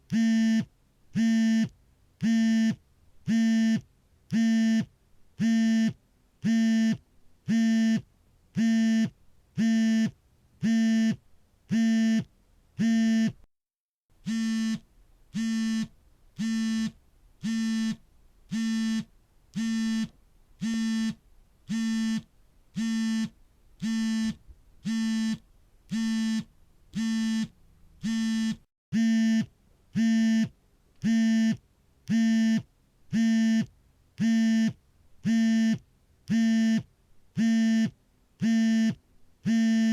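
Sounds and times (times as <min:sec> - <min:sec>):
mobile phone vibrating: 0:00.1 - 0:13.4, 0:14.2 - 0:39.9.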